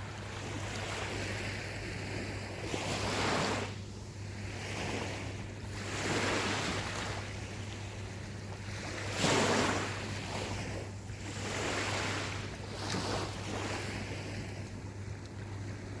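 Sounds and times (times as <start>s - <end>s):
small waves breaking on beach: 0.0s - 16.0s
steady low hum: 0.0s - 16.0s.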